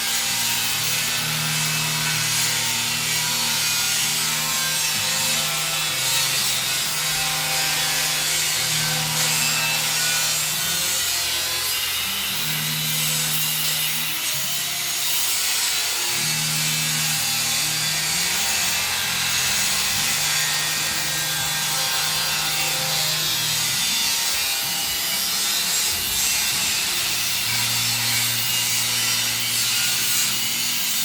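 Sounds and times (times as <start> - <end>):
angle grinder cutting steel: 0.0 - 31.0.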